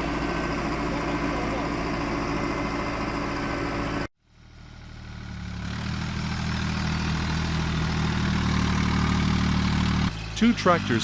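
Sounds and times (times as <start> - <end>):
engine running at low pitch: 0.0 - 11.0
vehicle engine running: 0.0 - 11.0.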